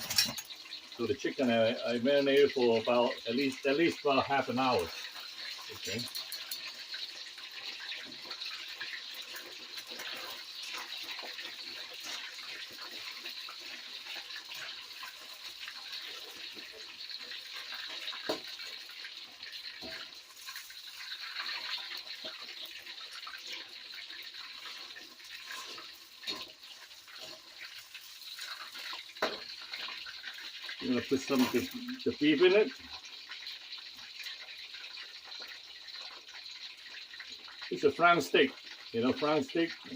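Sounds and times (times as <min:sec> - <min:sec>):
chicken sizzling in a wok: 0:00.0 - 0:39.9.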